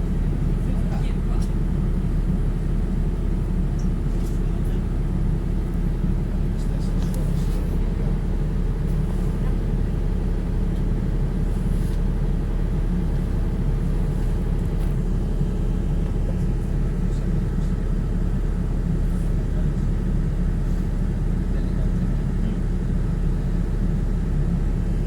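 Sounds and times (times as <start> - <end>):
ferry engine rumbling: 0.0 - 25.0.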